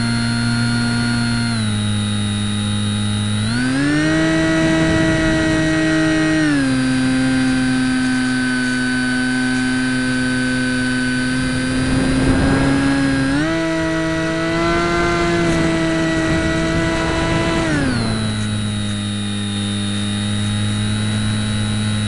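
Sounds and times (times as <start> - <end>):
electric motor and propeller whine: 0.0 - 22.0.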